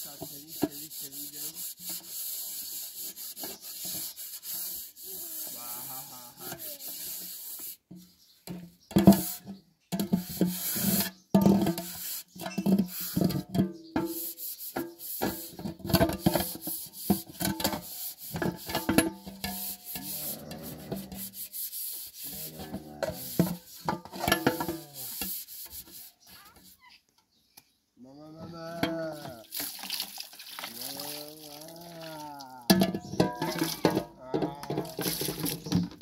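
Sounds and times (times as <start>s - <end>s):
scourer scraping metal pot: 0.0s - 26.8s, 28.6s - 29.9s, 32.6s - 36.0s.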